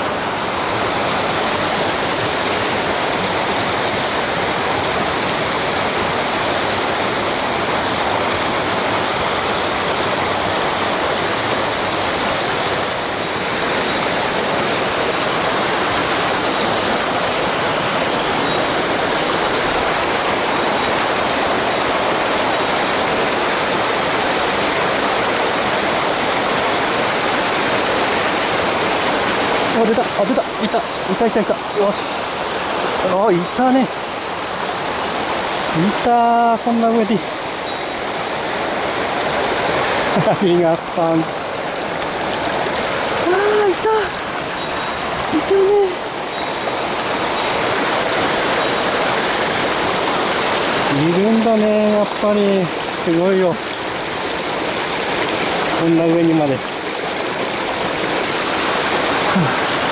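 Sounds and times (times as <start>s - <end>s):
stream water rushing over rocks: 0.0s - 59.9s.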